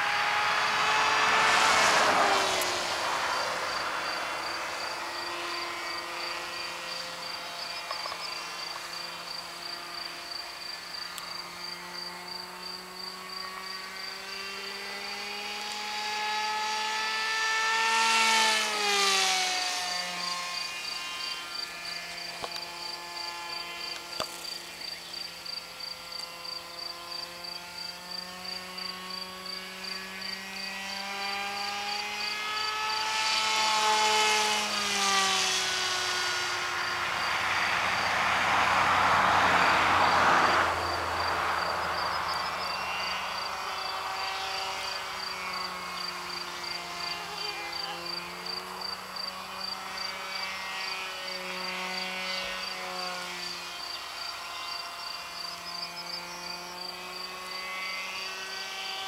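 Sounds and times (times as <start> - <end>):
model plane electric motor whine: 0.0 - 59.0.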